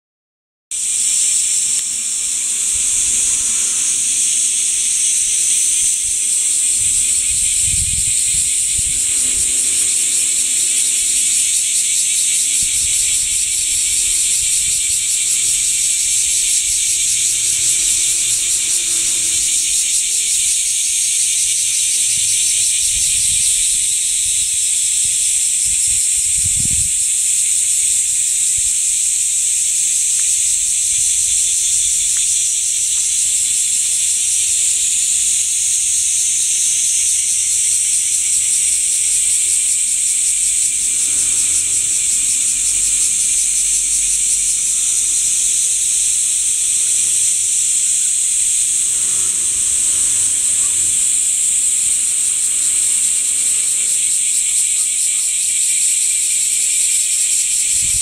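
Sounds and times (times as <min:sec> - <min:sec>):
cicadas buzzing: 0:00.7 - 0:58.0.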